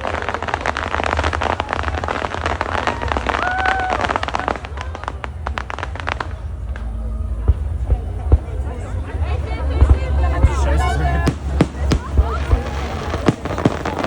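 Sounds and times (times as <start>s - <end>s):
fireworks crackling: 0.0s - 14.0s
low rumble: 0.0s - 14.0s.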